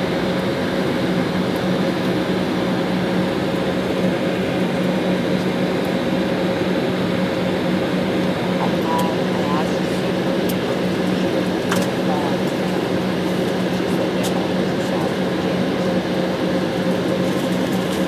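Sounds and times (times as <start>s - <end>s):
jet engines droning: 0.0s - 18.0s.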